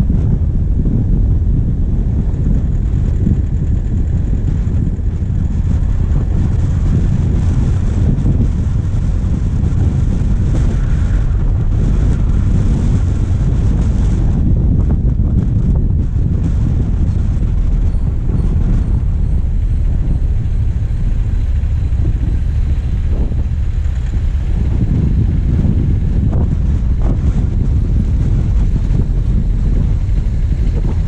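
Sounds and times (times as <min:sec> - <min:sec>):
diesel engine running: 0:00.0 - 0:31.0
wind buffeting microphone: 0:00.0 - 0:31.0.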